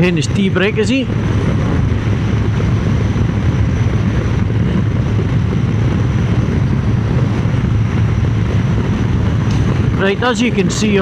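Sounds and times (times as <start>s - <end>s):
motorcycle engine cruising: 0.0s - 11.0s
wind rush on microphone: 0.0s - 11.0s.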